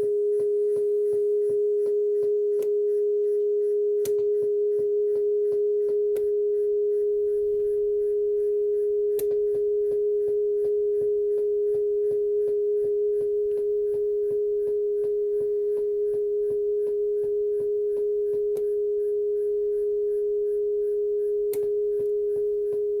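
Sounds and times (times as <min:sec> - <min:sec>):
steady pure test tone: 0:00.0 - 0:23.0.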